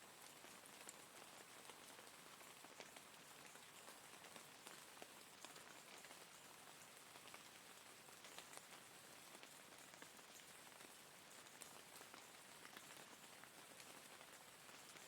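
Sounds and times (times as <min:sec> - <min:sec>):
raindrops ticking on surface: 0:00.1 - 0:15.0.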